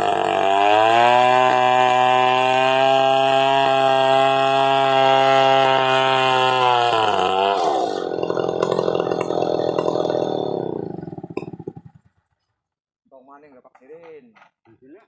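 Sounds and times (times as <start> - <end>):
chainsaw running: 0.0 - 12.3.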